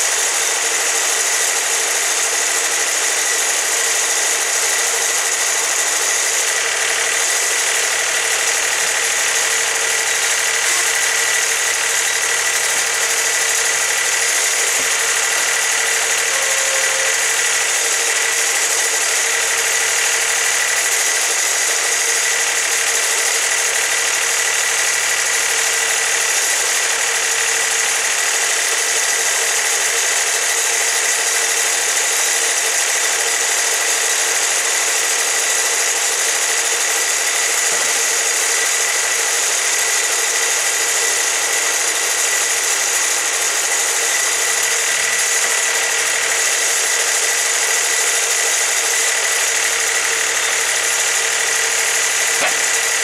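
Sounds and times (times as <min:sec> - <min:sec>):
band sawmill running: 0:00.0 - 0:53.0.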